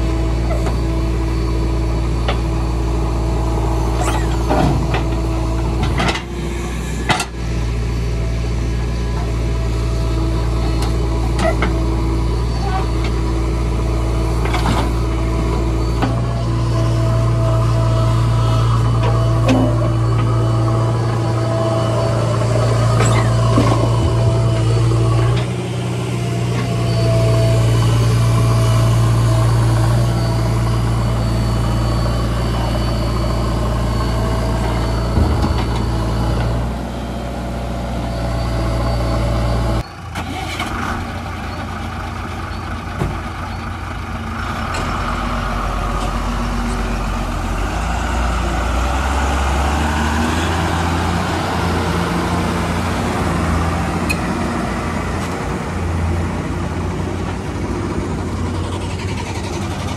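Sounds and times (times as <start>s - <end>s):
backhoe diesel engine running: 0.0s - 59.9s
truck diesel engine moving off: 0.0s - 59.9s.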